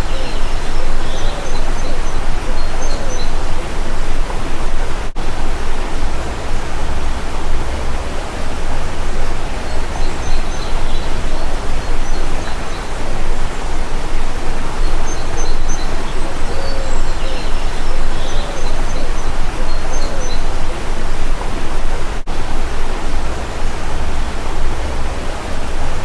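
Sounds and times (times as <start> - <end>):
faint high bird chirps: 0.0 - 22.1
flowing stream rushing: 0.0 - 26.0.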